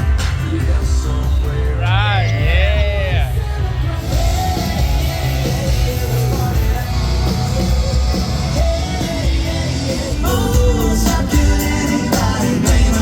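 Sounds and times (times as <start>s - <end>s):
live country band music: 0.0s - 13.0s
person singing: 0.0s - 13.0s.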